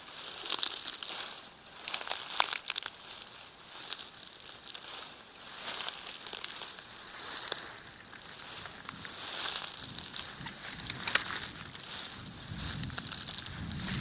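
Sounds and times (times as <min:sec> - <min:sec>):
footsteps through rustling undergrowth: 0:00.0 - 0:14.0
twig cracking: 0:01.8 - 0:14.0.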